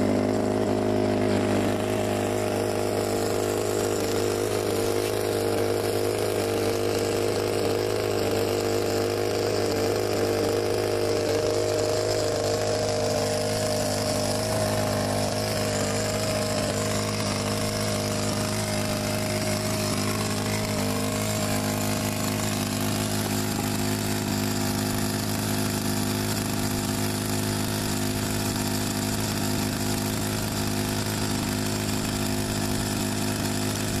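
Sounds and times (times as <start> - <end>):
model aircraft engine running: 0.0 - 34.0.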